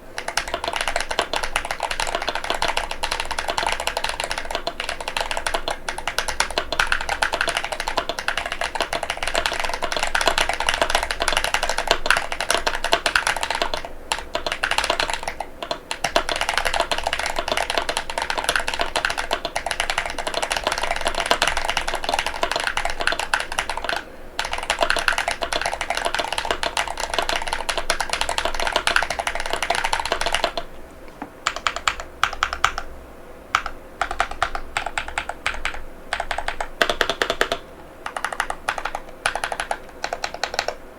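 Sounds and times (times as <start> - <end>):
mechanical keyboard typing: 0.2 - 30.7, 31.4 - 32.9, 33.5 - 40.8.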